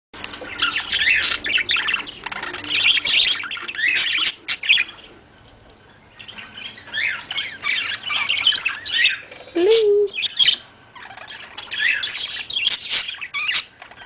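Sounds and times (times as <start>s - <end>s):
parrots chattering and squawking: 0.3s - 14.0s.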